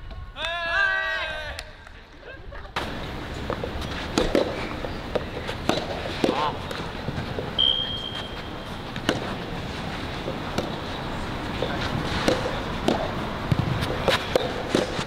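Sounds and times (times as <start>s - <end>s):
outdoor background noise: 0.0s - 15.0s
tennis balls struck by rackets: 2.8s - 15.0s.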